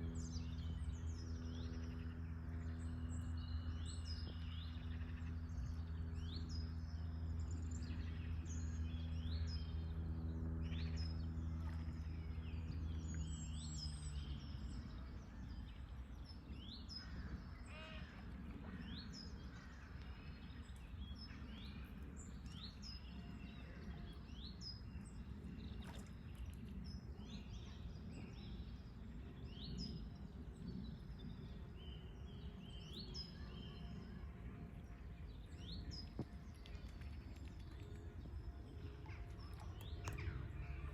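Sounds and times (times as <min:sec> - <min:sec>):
low outdoor rumble: 0:00.0 - 0:40.9
steady low hum: 0:00.0 - 0:40.9.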